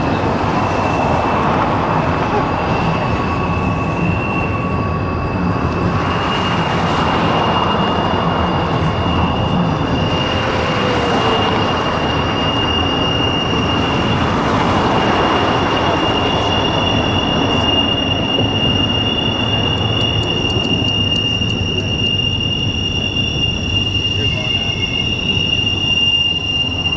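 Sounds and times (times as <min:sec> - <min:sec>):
high-pitched wheel squeal: 0:00.0 - 0:26.9
train rumbling by: 0:00.0 - 0:26.9.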